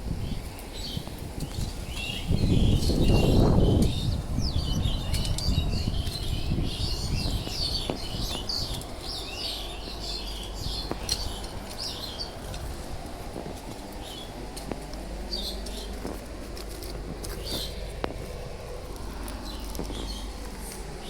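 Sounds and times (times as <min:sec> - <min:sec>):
birds chirping: 0:00.2 - 0:21.0.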